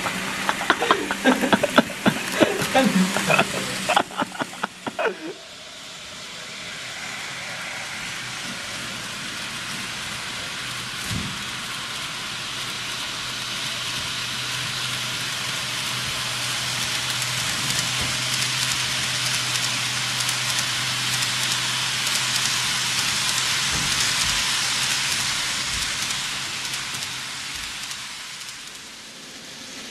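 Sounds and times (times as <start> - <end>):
model train wheels hissing on rail: 0.0 - 29.9.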